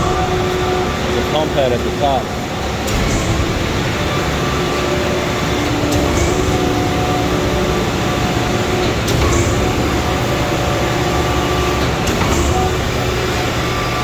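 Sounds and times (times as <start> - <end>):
concrete pump engine drone: 0.0 - 14.0.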